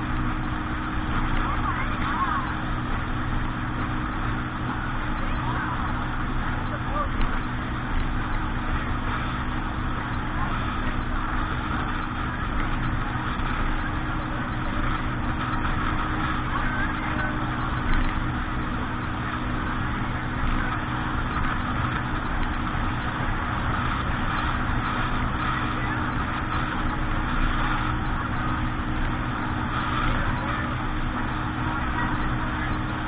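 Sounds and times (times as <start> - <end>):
constant rushing noise: 0.0 - 33.0
engine running: 0.0 - 33.0.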